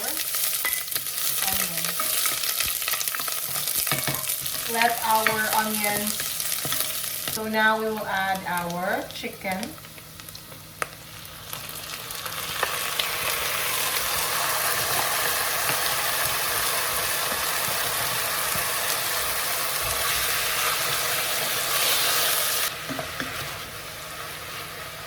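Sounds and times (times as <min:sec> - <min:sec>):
chicken sizzling in hot oil: 0:00.0 - 0:07.4, 0:09.5 - 0:25.0.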